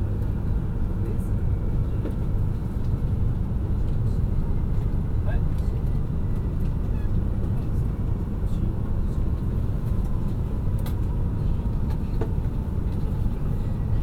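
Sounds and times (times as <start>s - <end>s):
train rumble inside cabin: 0.0s - 14.0s.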